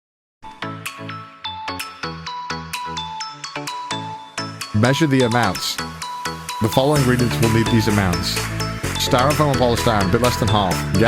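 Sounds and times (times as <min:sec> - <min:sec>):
plucked melody over bass line: 0:00.7 - 0:11.0.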